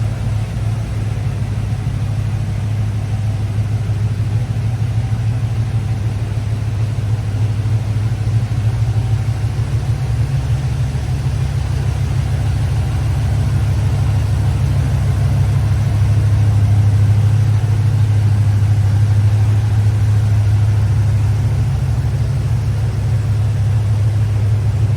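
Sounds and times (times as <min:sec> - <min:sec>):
car engine droning: 0:00.0 - 0:24.9.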